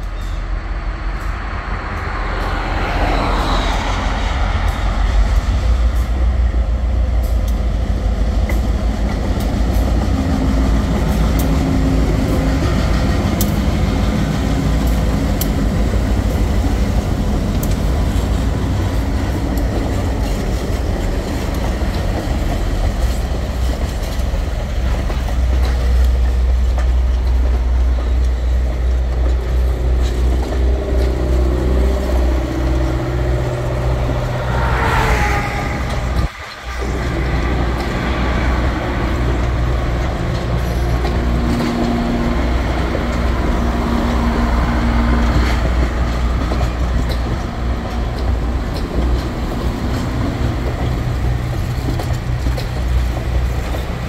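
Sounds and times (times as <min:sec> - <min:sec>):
locomotive engines rumbling: 0:00.0 - 0:54.0
train wheels rolling on rails: 0:00.0 - 0:54.0.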